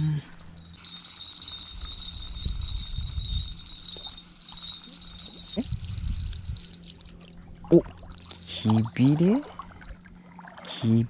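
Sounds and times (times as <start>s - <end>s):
crickets chirring: 0.0s - 10.6s.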